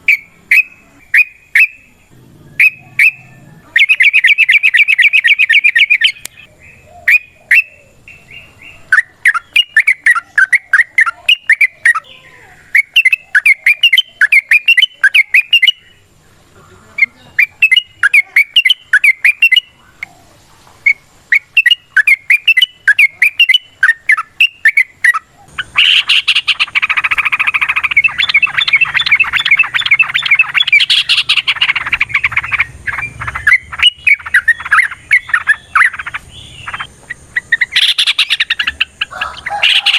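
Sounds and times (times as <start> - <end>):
bulbuls bubbling chirps: 0.0 - 39.9.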